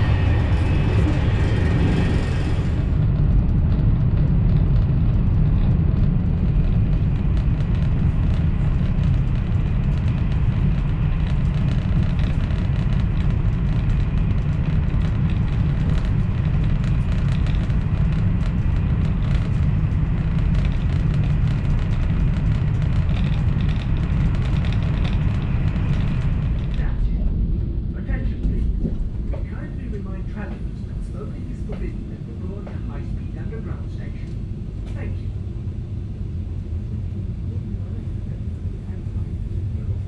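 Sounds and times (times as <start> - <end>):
train low rumble: 0.0 - 40.0.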